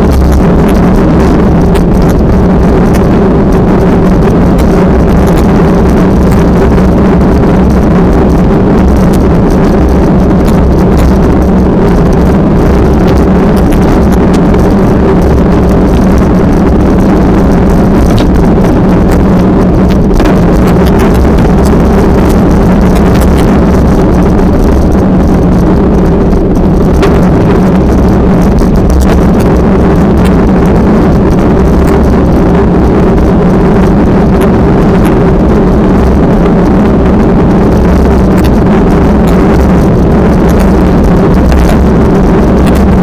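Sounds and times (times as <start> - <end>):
engine drone: 0.0 - 43.0
wind rumbling on microphone: 0.0 - 43.0.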